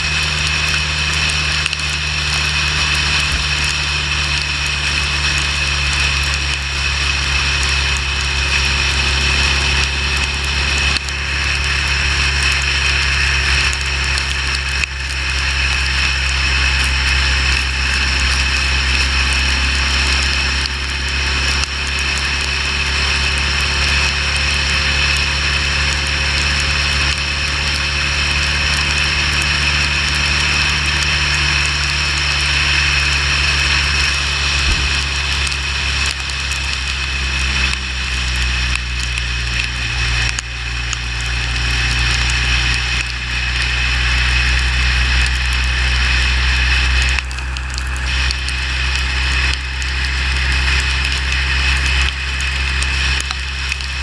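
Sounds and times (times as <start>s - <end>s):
motorcycle engine drone: 0.0s - 54.0s
wind and road noise: 0.0s - 54.0s.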